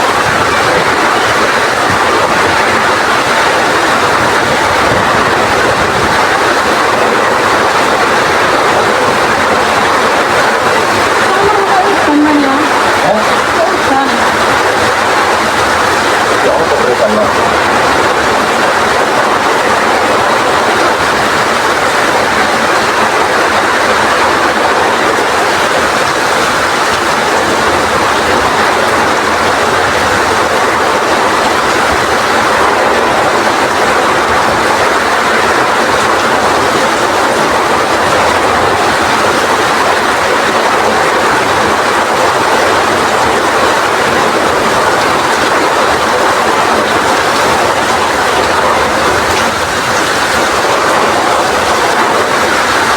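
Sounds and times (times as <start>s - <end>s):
heavy rain: 0.0s - 52.9s
strong wind: 0.0s - 52.9s.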